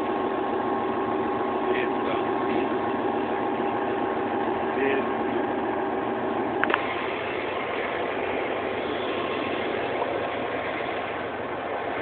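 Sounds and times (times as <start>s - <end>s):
diesel locomotive engine: 0.0s - 12.0s.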